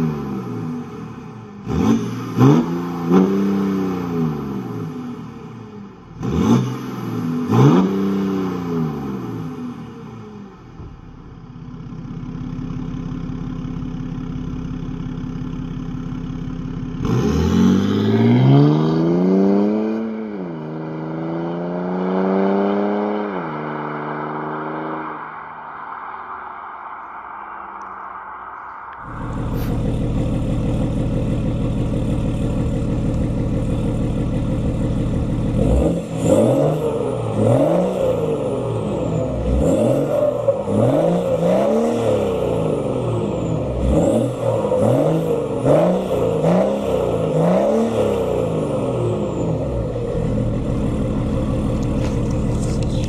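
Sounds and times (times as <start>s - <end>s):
diesel engine idling and revving: 0.0s - 53.0s.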